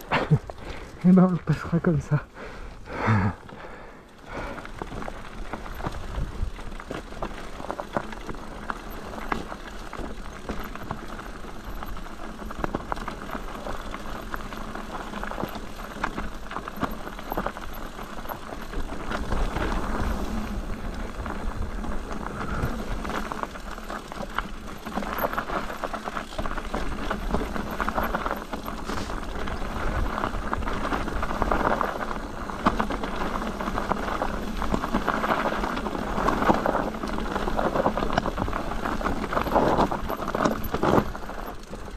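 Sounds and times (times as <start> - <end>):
bike rattling: 0.0 - 41.9
tyres crunching over rocks: 0.0 - 41.9.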